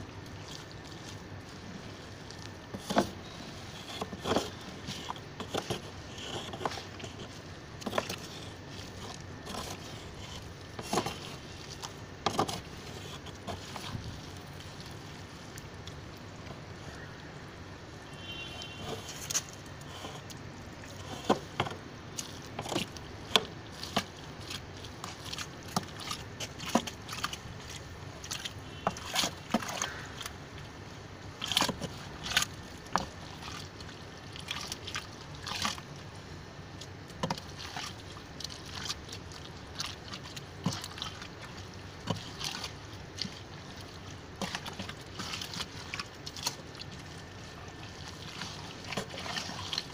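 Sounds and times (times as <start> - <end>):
stick stirring wet slurry: 0.0 - 49.9.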